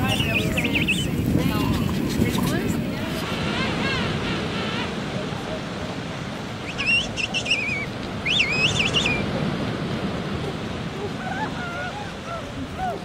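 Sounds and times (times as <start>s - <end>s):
surf washing: 0.0s - 13.0s.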